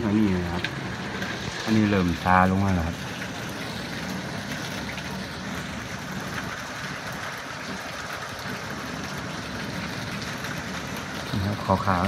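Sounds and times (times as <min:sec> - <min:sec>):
hail and rain falling: 0:00.0 - 0:12.0.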